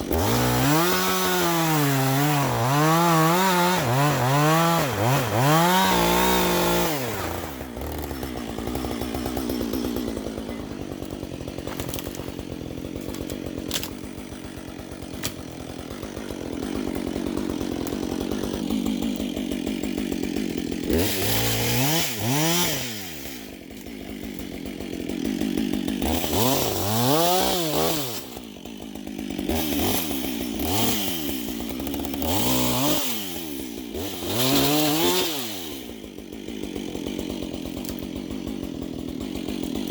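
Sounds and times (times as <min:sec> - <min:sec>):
chainsaw cutting and revving: 0:00.0 - 0:39.9.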